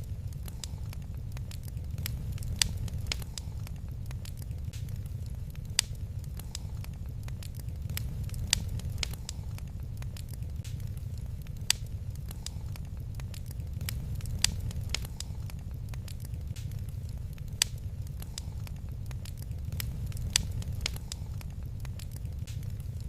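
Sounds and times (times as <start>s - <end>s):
low fire rumble: 0.0s - 23.0s
wood fire crackling: 0.0s - 23.0s.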